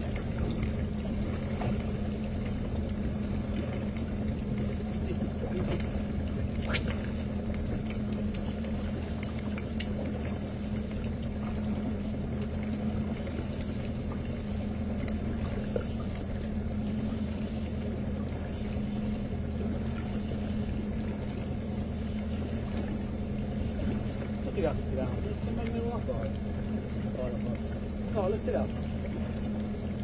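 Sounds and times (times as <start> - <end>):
outboard motor humming: 0.0 - 30.0.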